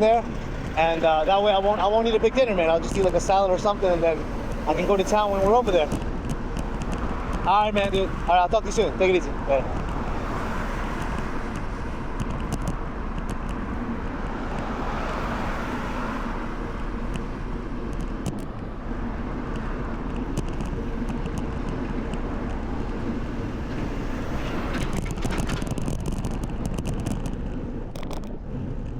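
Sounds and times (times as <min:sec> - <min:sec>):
deep rumble: 0:00.0 - 0:28.9
motor traffic passing: 0:00.0 - 0:28.9.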